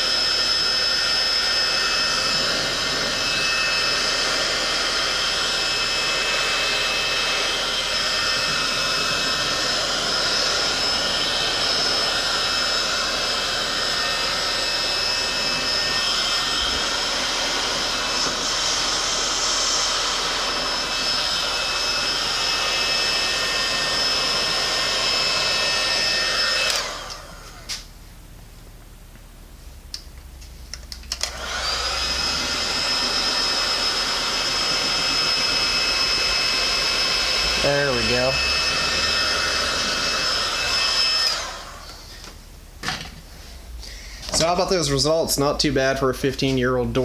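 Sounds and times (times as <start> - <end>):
heat gun blowing with fan whine: 0.0 - 28.5, 29.8 - 47.0.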